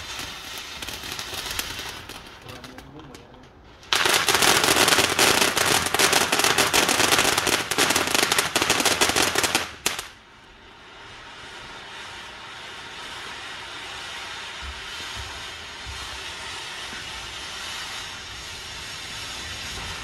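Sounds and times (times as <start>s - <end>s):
firework fountain crackling: 0.0s - 20.0s
firework fountain hissing: 0.0s - 20.0s.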